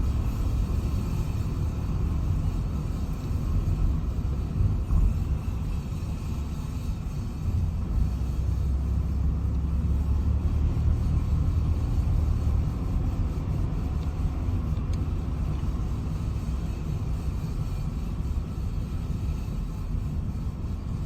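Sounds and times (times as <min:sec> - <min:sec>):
low road rumble: 0:00.0 - 0:21.0.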